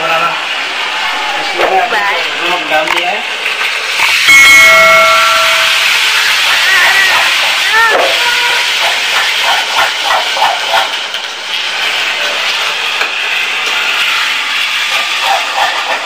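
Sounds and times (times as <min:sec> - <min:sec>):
gravy sizzling in oil: 0:00.0 - 0:16.0.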